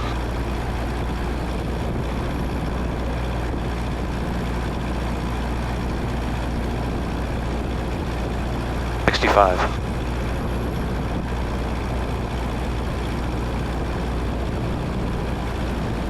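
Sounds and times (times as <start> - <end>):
light aircraft engine cabin drone: 0.0 - 16.0.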